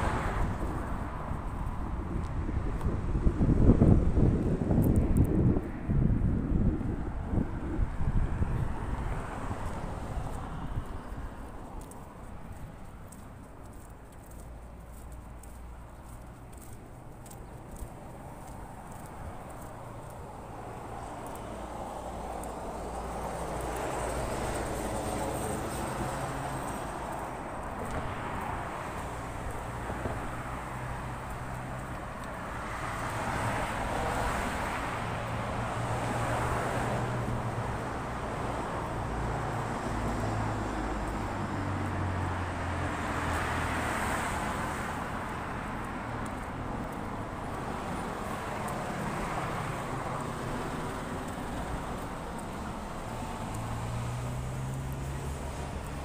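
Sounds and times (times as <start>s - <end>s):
cars passing: 0.0s - 56.0s
low traffic rumble: 0.0s - 56.0s.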